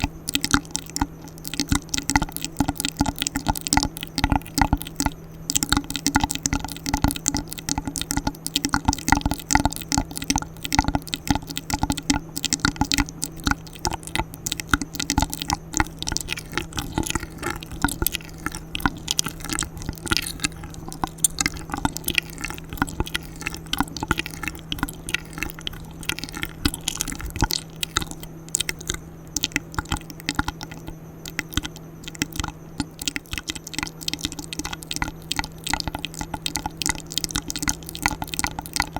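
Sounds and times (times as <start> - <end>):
steady low hum: 0.0 - 38.9
wet mouth clicks and smacks: 0.0 - 38.9.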